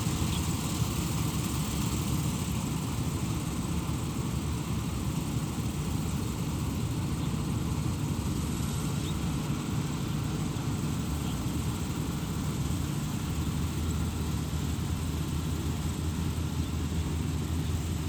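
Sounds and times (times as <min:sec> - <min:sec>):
constant hiss: 0:00.0 - 0:18.0
harvester engine drone: 0:00.0 - 0:18.0.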